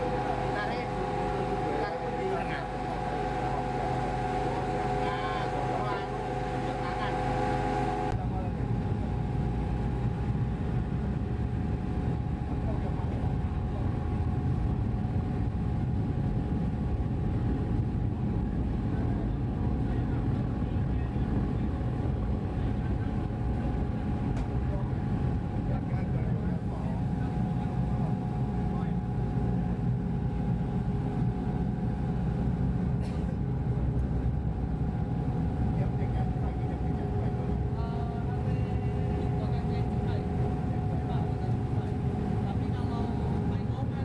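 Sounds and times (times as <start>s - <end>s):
faint steady whine: 0.0s - 44.0s
ferry engines rumbling: 0.0s - 44.0s.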